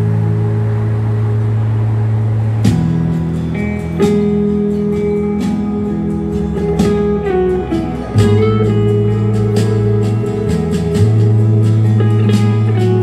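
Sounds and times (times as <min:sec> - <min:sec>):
guitar music over loudspeakers: 0:00.0 - 0:13.0
steady bass line: 0:00.0 - 0:13.0.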